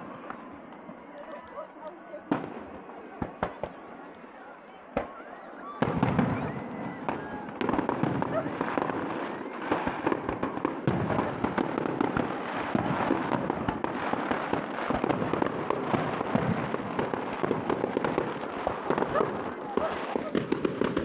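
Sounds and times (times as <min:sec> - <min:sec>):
fireworks bursts and crackling: 0:00.0 - 0:21.0.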